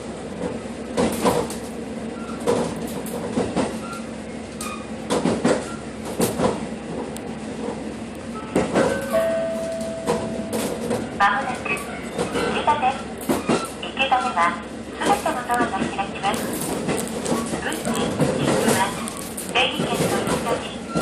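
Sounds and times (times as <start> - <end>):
train rolling noise: 0.0 - 21.0
train wheels clacking on rails: 0.3 - 21.0.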